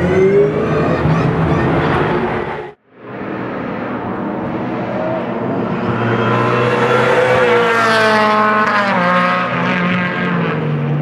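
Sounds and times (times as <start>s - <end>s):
second race car passing: 0.0s - 10.7s
race car engine passing at high revs: 0.0s - 11.0s.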